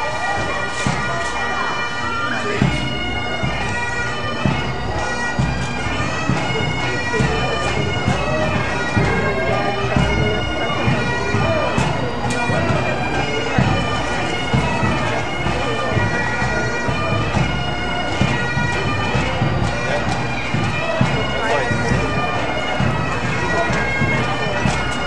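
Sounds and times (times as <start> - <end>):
bagpipes playing a melody: 0.0 - 25.0
drum beats: 2.4 - 25.0.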